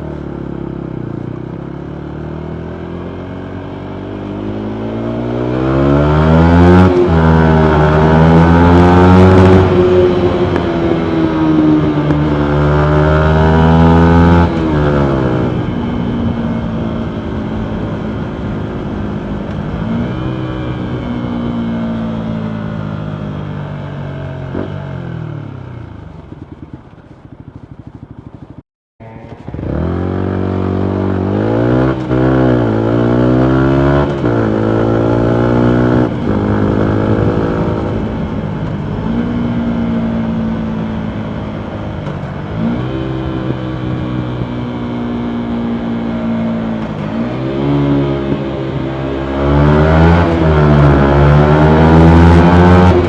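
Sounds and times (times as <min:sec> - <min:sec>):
motorcycle engine shifting gears: 0:00.0 - 0:53.0.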